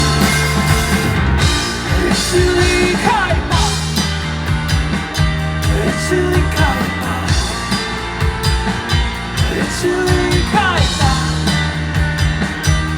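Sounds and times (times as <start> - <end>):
bass guitar: 0.0 - 12.9
drums: 0.0 - 12.9.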